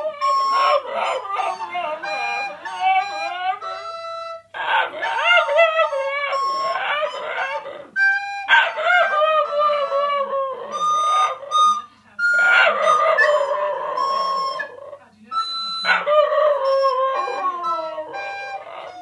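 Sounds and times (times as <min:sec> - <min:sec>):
dog howling: 0:00.0 - 0:04.0, 0:04.6 - 0:15.0, 0:15.8 - 0:19.0
recorder held notes: 0:00.0 - 0:19.0.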